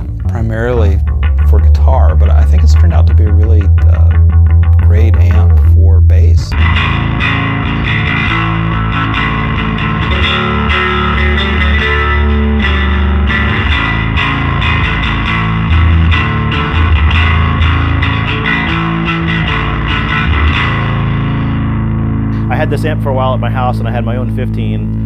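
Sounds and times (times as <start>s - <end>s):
overdriven electric bass notes: 0.0s - 25.0s.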